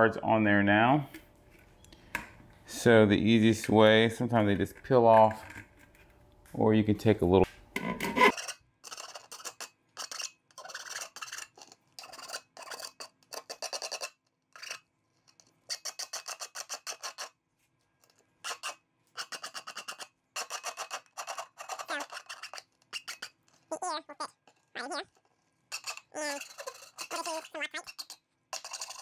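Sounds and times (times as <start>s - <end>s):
hand tool scraping plastic: 3.5s - 6.2s, 7.8s - 17.4s, 18.0s - 29.0s.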